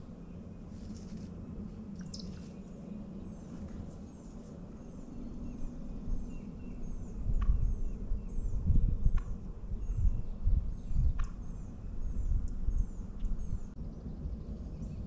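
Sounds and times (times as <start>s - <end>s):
songbird chirping: 0.0s - 15.0s
steady low rumble: 0.0s - 15.0s.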